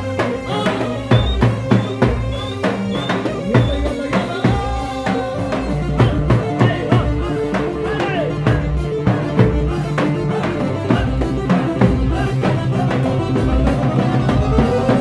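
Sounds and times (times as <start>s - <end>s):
drums beating steadily: 0.0s - 15.0s.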